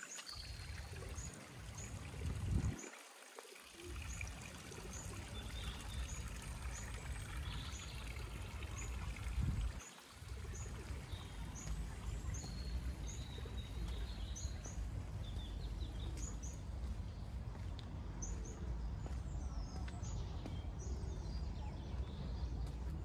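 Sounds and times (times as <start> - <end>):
small birds chirping: 3.8 - 22.8.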